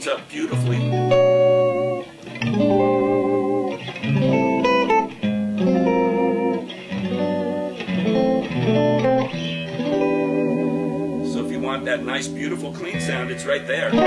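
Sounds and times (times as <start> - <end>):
clean electric guitar: 0.5 - 14.0.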